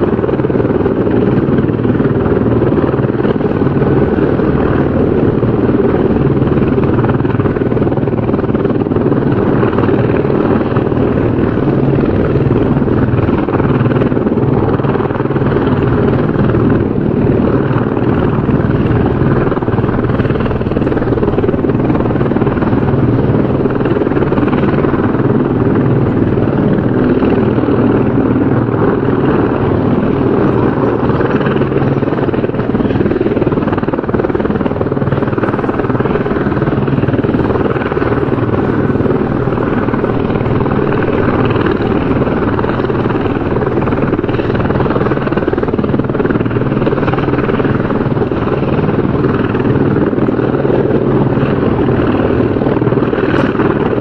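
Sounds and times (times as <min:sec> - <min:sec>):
helicopter rotor chopping: 0:00.0 - 0:54.0.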